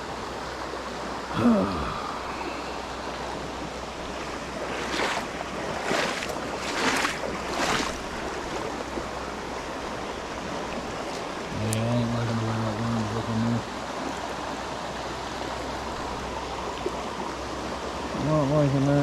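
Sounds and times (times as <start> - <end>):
creek water flowing: 0.0 - 19.0
wind: 0.0 - 19.0.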